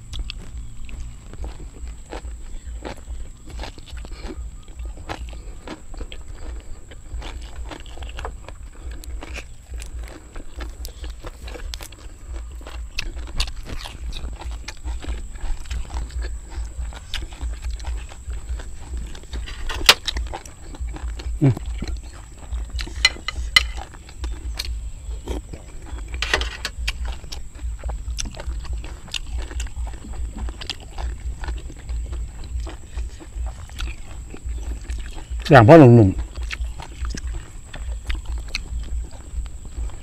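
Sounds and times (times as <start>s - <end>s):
chewing and lip-smacking: 0.0s - 40.0s
crunchy snaps: 0.0s - 40.0s
mouth clicks: 0.0s - 40.0s.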